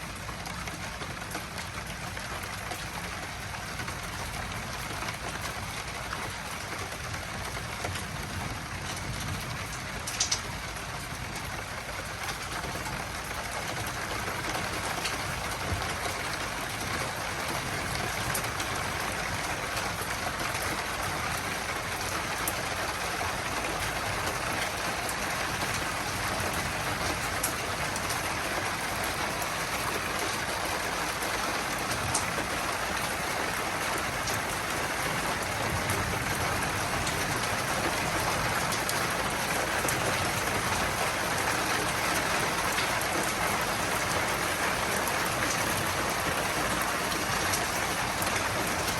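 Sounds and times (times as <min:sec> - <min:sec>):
heavy rain: 0:00.0 - 0:48.9
raindrops ticking: 0:00.0 - 0:48.9.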